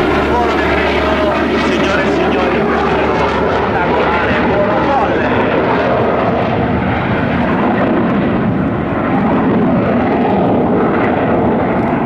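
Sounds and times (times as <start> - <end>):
loud jet engine noise: 0.0 - 12.0.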